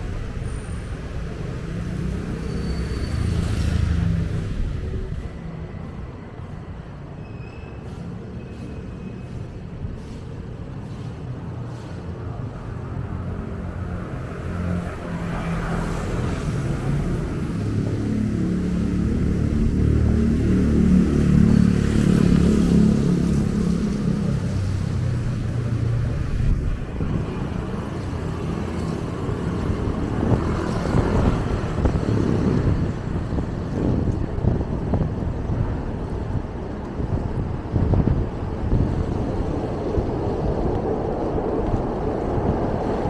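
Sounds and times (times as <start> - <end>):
street traffic: 0.0 - 43.0.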